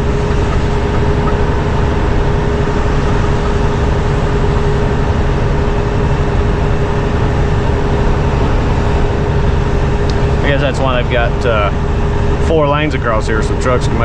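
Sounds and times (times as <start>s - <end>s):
constant hum: 0.0s - 14.0s
road noise: 0.0s - 14.0s
truck engine drone: 0.0s - 14.0s.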